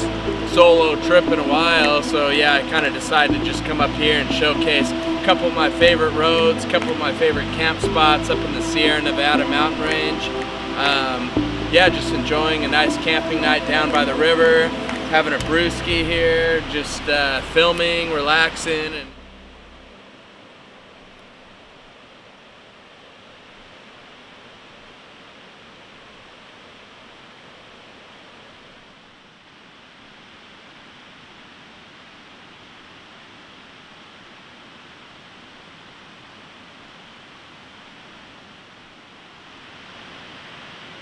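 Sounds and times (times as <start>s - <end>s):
river rushing over rapids: 0.0s - 41.0s.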